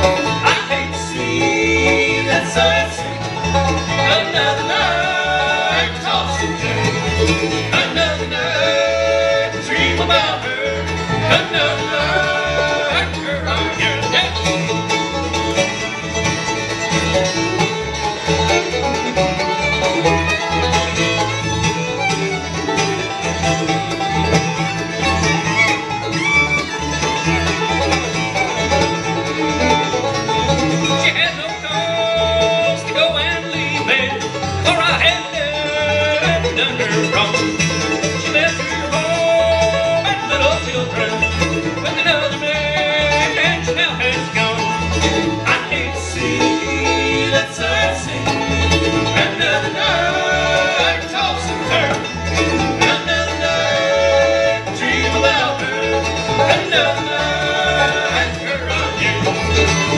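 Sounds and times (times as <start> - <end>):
acoustic guitar: 0.0 - 59.9
banjo: 0.0 - 59.9
fiddle: 0.0 - 59.9
mandolin: 0.0 - 59.9
upright bass: 0.0 - 59.9.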